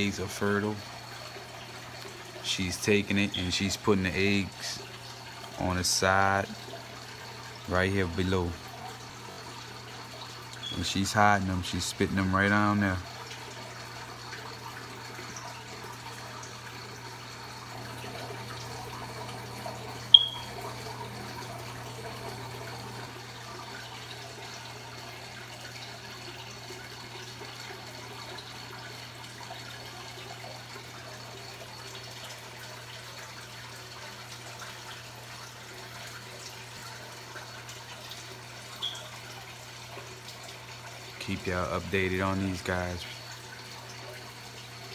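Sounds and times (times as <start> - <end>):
aquarium pump hum: 0.0 - 44.9
water trickling: 0.0 - 44.9.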